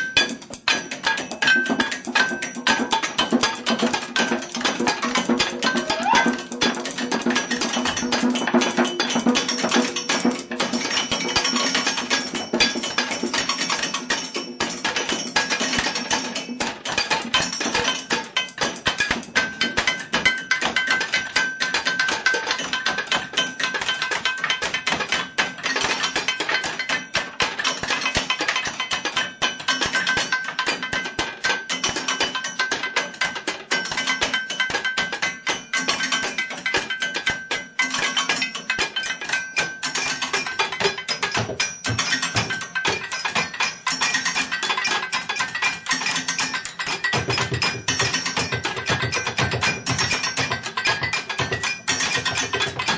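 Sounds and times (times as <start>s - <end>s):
drumming on kitchen objects: 0.0s - 52.9s.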